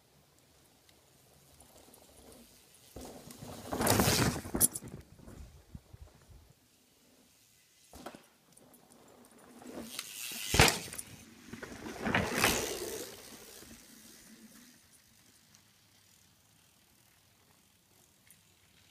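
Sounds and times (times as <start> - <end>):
bike tyre noise: 0.1 - 18.9.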